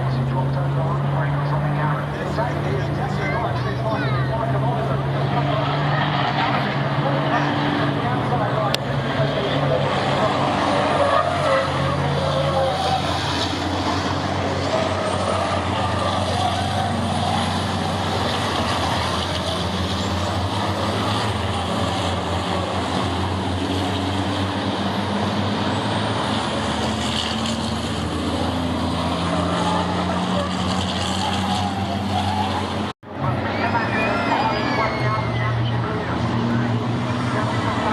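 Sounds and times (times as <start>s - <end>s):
racing truck diesel engines: 0.0s - 37.9s.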